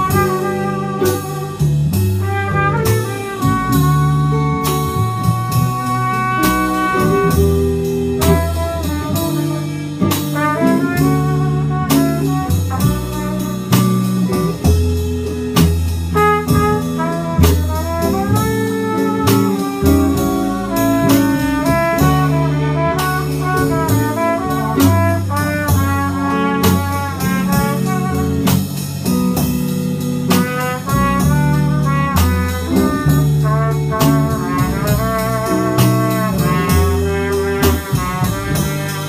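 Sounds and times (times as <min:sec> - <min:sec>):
double bass: 0:00.0 - 0:39.0
drum kit: 0:00.0 - 0:39.0
trumpet melody: 0:00.0 - 0:39.0.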